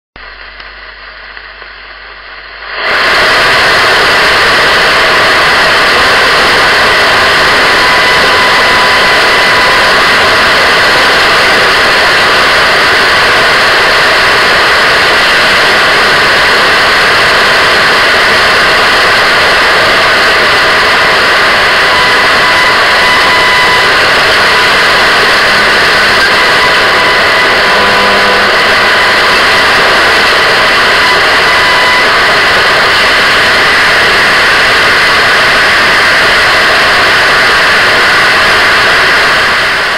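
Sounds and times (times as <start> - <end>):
radio static: 0.2 - 39.9.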